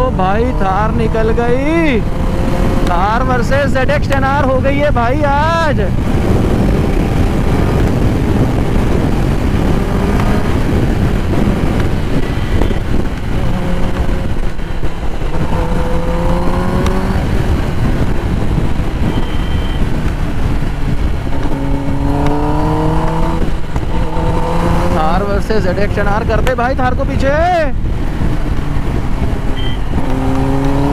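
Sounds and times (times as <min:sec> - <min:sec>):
motorcycle engine: 0:00.0 - 0:30.9
wind rush on microphone: 0:00.0 - 0:30.9.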